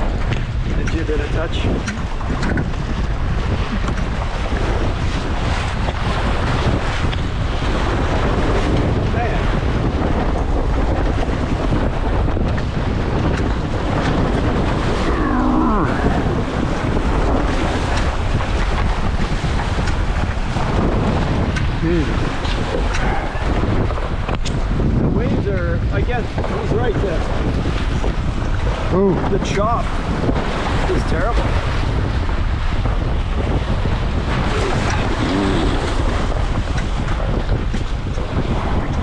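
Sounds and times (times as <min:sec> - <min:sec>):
water splashing against hulls: 0:00.0 - 0:39.0
wind buffeting microphone: 0:00.0 - 0:39.0.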